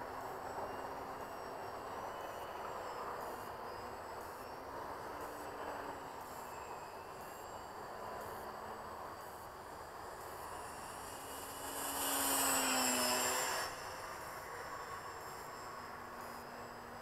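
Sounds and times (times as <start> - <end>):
rc plane motor droning: 0.0 - 17.0
steady hiss: 0.0 - 17.0.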